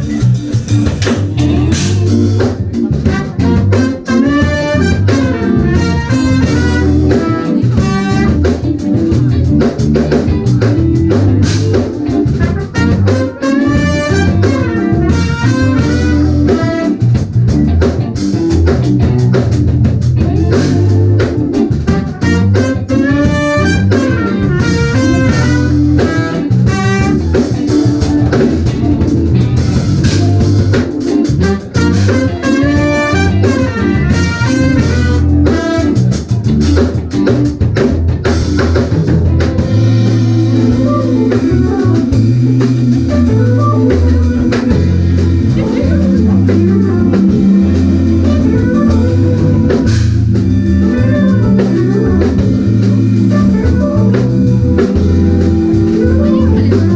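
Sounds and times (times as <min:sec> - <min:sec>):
electric guitar melodic runs: 0:00.0 - 0:56.9
jazz fusion band playing: 0:00.0 - 0:56.9.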